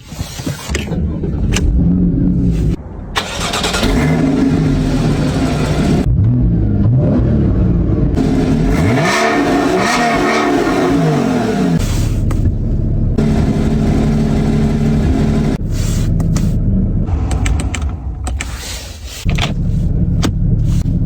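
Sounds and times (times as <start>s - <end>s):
car engine revving: 0.8s - 21.0s.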